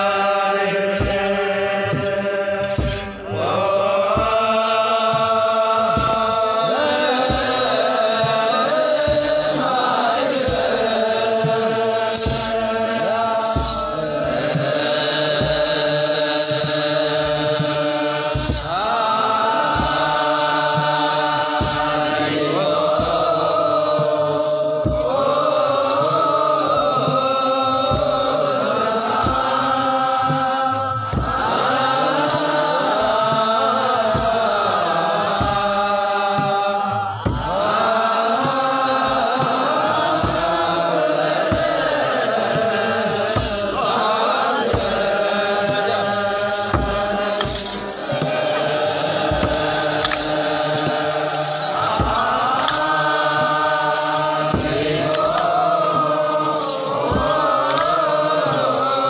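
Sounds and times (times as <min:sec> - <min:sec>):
sistra jingling: 0:00.0 - 0:05.2, 0:05.8 - 0:59.0
group of men chanting: 0:00.0 - 0:59.0.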